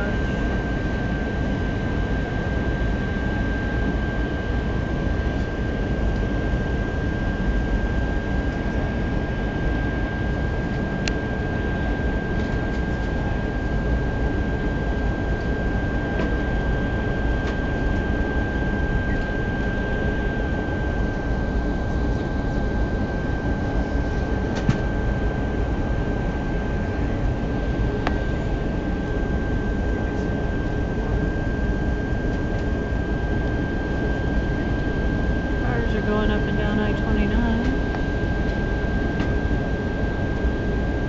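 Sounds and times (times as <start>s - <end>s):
aircraft cabin engine rumble: 0.0s - 41.0s.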